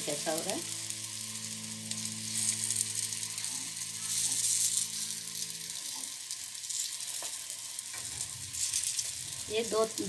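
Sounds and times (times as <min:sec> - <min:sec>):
dough balls sizzling in oil: 0:00.0 - 0:10.0.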